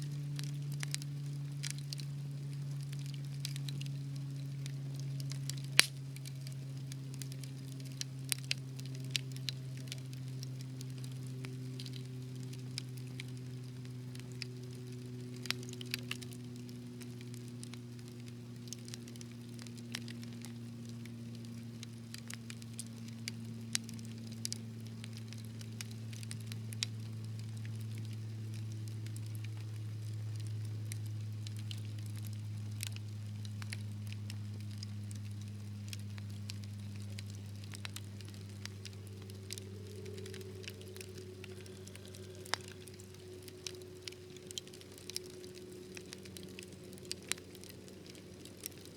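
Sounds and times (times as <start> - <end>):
low steady hum: 0.0 - 48.9
wood fire crackling and popping: 0.0 - 48.9.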